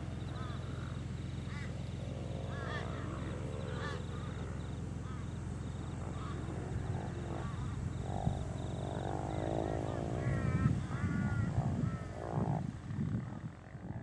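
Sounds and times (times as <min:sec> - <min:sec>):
birds calling: 0:00.0 - 0:12.6
steady low drone: 0:00.0 - 0:14.0.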